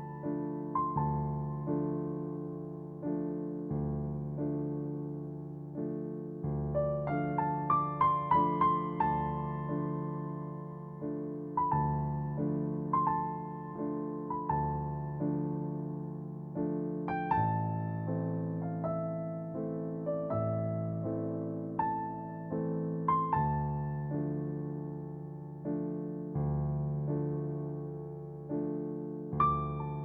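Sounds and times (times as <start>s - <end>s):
slow soft piano music: 0.0s - 30.0s.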